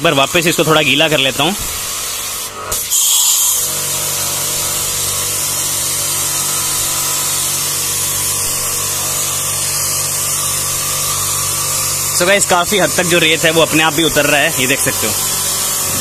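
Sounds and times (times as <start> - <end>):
pressure washer motor humming: 0.0 - 16.0.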